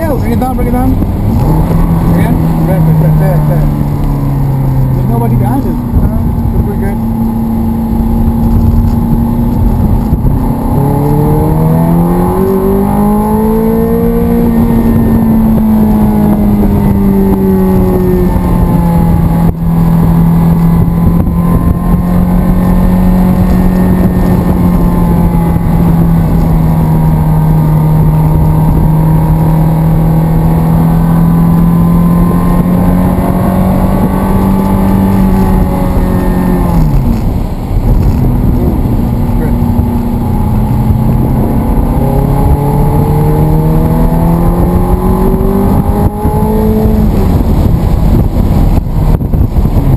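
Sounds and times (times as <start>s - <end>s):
sports car engine revving: 0.0s - 49.9s.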